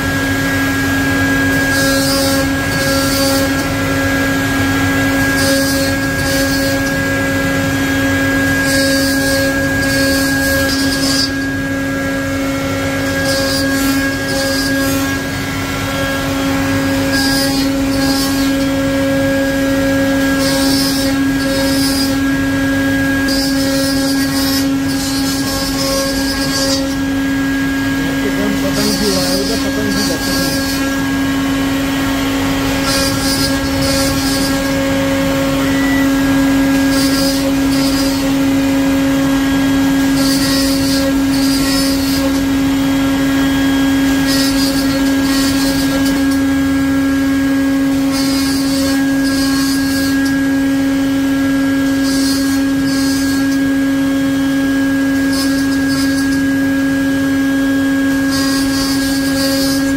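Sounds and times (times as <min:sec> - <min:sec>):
router bit cutting wood: 0:00.0 - 0:59.9
router spindle whine: 0:00.0 - 0:59.9.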